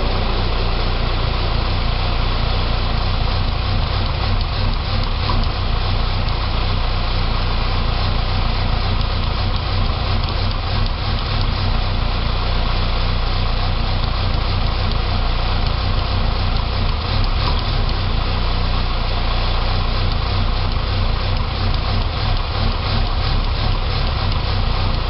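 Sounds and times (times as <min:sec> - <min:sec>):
car engine idling roughly: 0:00.0 - 0:25.0.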